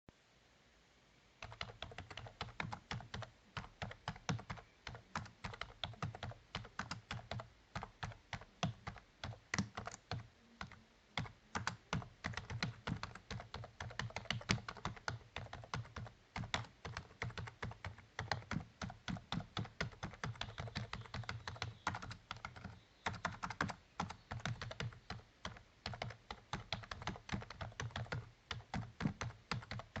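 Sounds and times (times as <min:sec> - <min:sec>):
typing on computer keyboard: 0:01.4 - 0:30.0.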